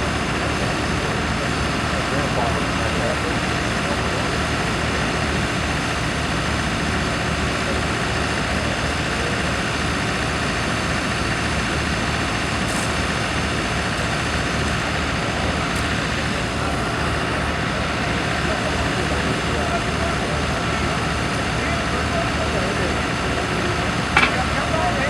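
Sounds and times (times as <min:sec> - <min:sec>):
construction machine engine running: 0:00.0 - 0:25.0.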